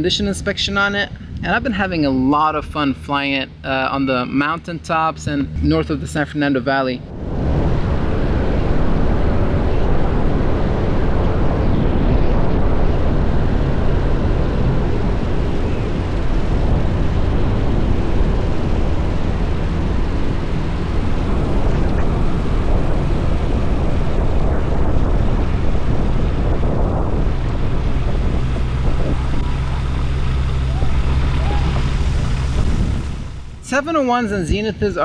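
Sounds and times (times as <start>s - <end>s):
aircraft engine and propeller: 0.0s - 35.0s
wind buffeting microphone: 0.0s - 35.0s.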